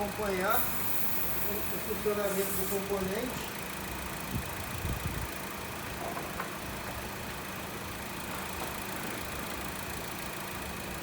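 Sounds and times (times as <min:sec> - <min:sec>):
air conditioning running: 0:00.0 - 0:11.0
car engine idling: 0:00.0 - 0:11.0.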